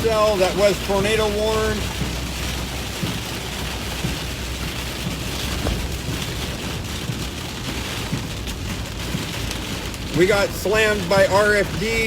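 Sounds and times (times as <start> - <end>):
heavy rain on a vehicle: 0.0 - 12.0.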